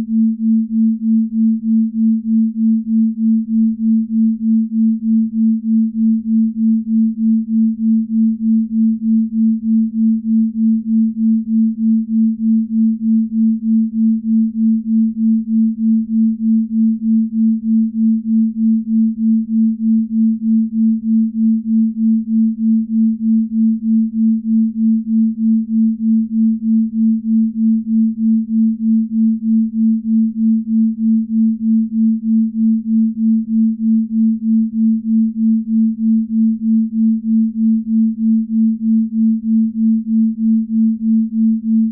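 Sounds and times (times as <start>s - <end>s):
low beating sine tone: 0.0s - 41.9s.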